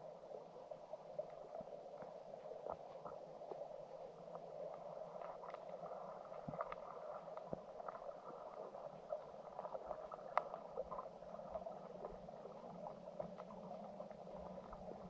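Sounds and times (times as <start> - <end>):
small underwater clicks: 0.1 - 15.0.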